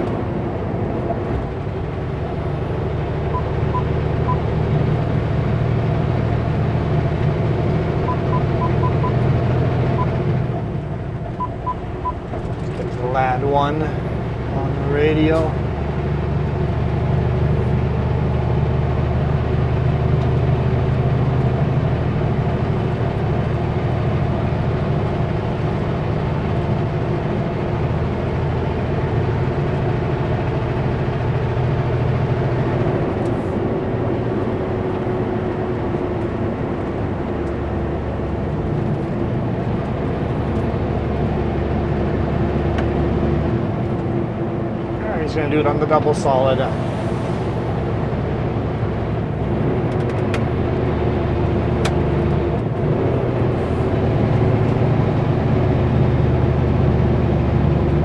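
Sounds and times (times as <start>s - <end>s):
road noise: 0.0s - 58.0s
truck diesel engine running: 0.0s - 58.0s.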